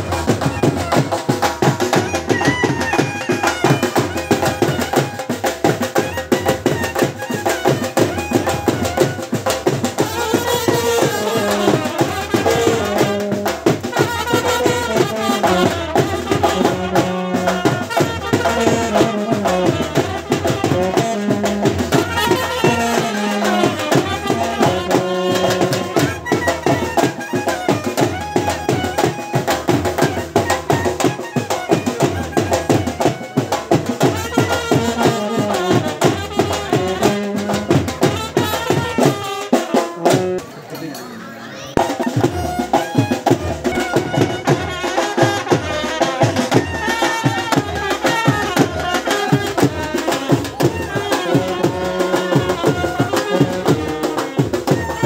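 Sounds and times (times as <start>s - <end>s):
fast drum beat: 0.0s - 40.5s, 41.7s - 55.0s
trumpets playing melody: 0.0s - 40.6s, 41.8s - 55.0s.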